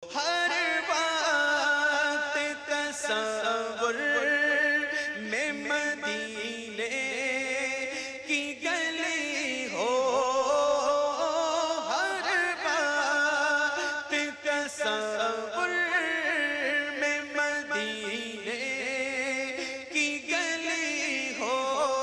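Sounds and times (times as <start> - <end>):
voices singing devotional song: 0.0 - 22.0.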